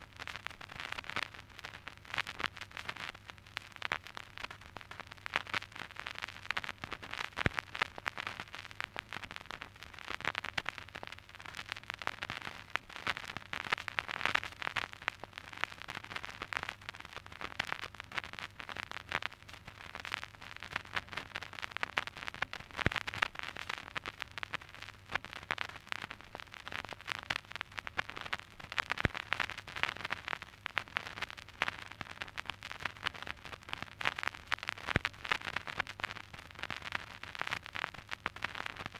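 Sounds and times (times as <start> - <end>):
vinyl record crackle and pops: 0.0 - 38.9.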